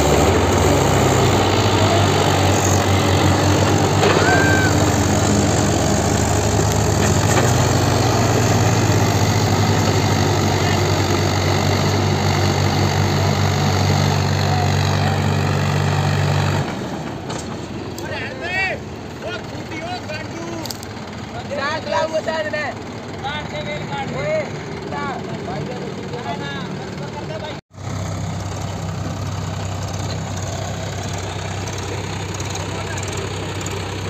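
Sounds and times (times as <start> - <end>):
tractor diesel engines under load: 0.0 - 34.0.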